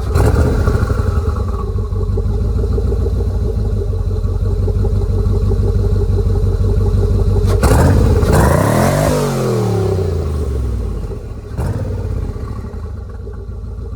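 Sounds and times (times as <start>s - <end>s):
car engine idling and revving: 0.0s - 13.9s.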